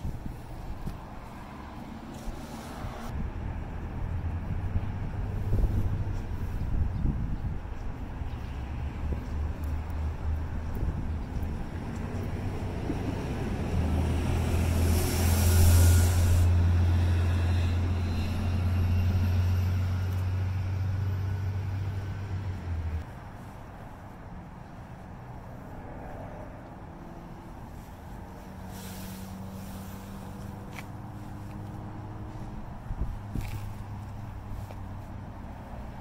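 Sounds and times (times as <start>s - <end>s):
faint street noise: 0.0s - 36.0s
road traffic rumble: 0.0s - 36.0s.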